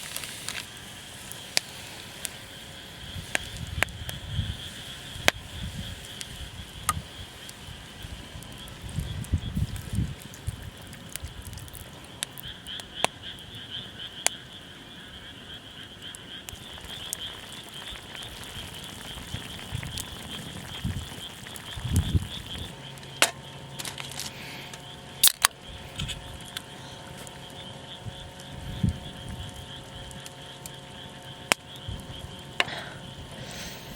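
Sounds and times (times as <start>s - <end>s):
frog chorus trilling: 2.4s - 33.9s.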